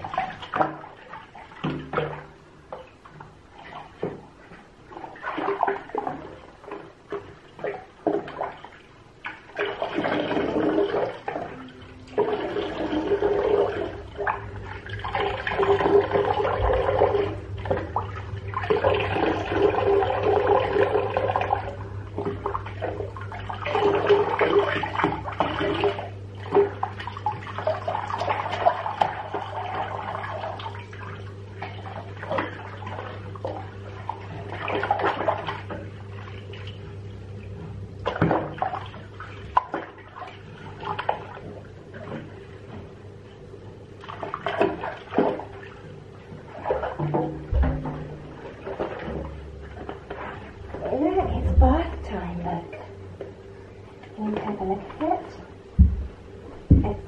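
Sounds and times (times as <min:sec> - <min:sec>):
tap water running into bathtub: 0:00.0 - 0:43.0, 0:43.9 - 0:57.0
steady low hum: 0:00.0 - 0:57.0.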